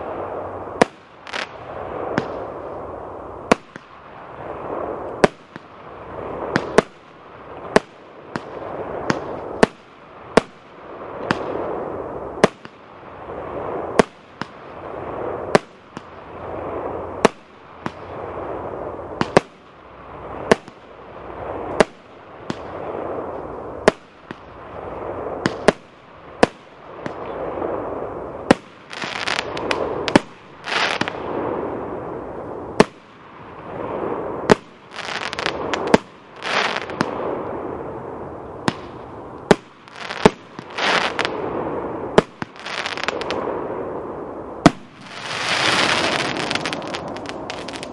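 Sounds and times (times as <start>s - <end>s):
firework crackling: 0.0s - 47.9s
firework hiss and burst: 0.0s - 47.9s
firework launch reports: 0.0s - 47.9s.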